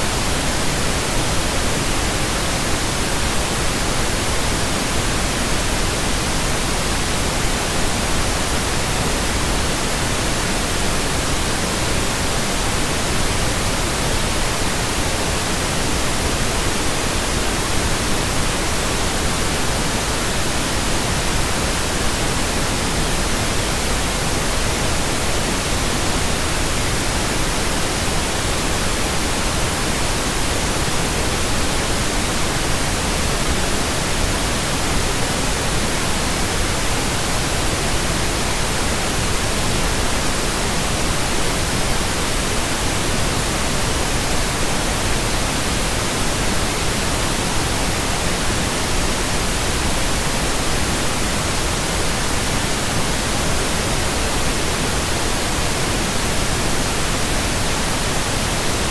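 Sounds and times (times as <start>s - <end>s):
steady pink noise hiss: 0.0s - 58.9s.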